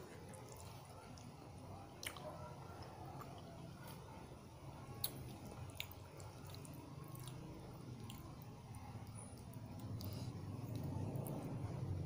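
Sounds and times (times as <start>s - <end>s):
person chewing food: 0.0s - 4.1s, 4.9s - 11.8s
low background hum: 0.0s - 12.0s.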